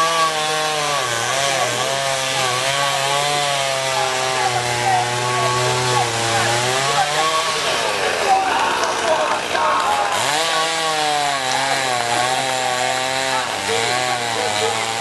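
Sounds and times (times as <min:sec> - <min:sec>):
chainsaw cutting: 0:00.0 - 0:15.0.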